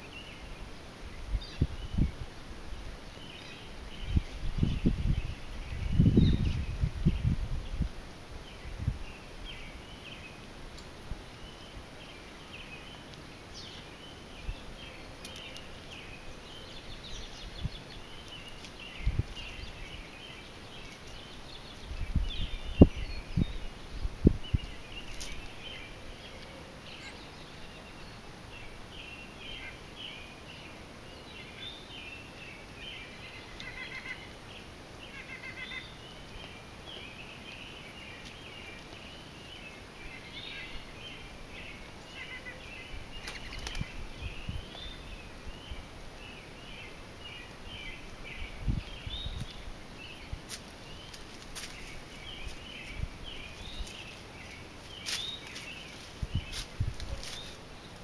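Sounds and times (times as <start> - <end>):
outdoor background hiss: 0.0 - 58.0
small birds chirping and singing: 0.0 - 58.0.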